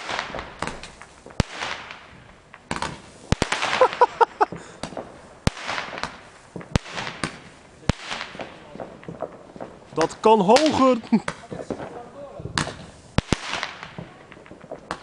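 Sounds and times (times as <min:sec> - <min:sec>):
fireworks bangs: 0:00.0 - 0:15.0
fireworks hissing: 0:00.0 - 0:15.0.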